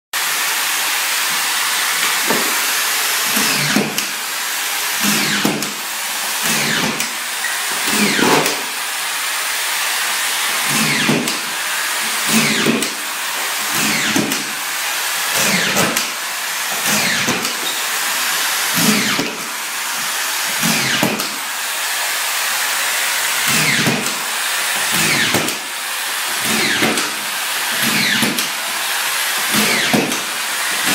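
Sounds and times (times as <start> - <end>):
power screw gun running: 0.2 - 30.9
screw grinding into wood: 1.2 - 8.8, 10.0 - 21.4, 23.2 - 30.9.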